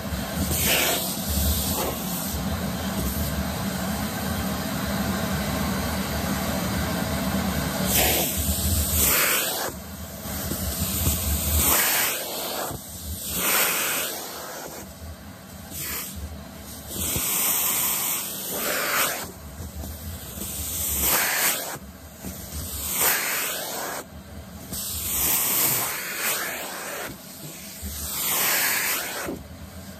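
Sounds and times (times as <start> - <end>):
vacuum cleaner sucking hair: 0.0 - 29.9.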